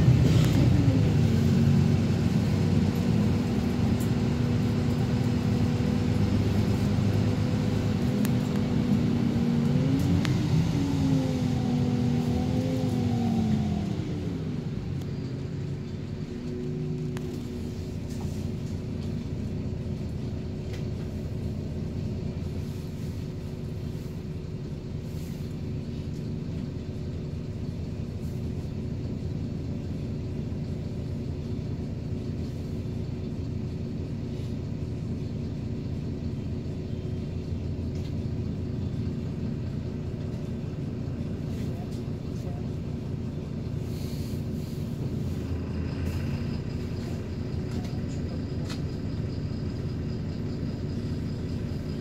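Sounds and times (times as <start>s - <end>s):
bus engine and road noise: 0.0s - 52.0s.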